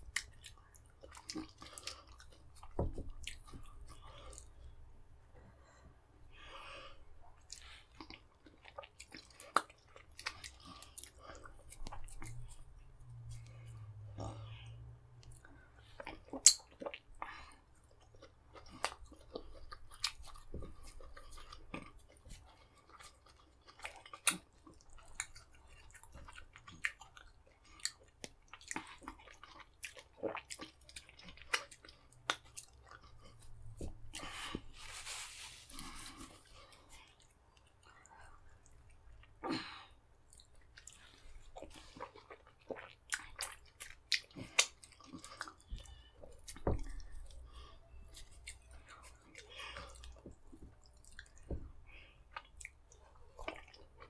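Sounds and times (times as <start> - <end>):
wet chewing and lip smacks: 0.0 - 4.7, 7.4 - 34.7, 40.2 - 54.0.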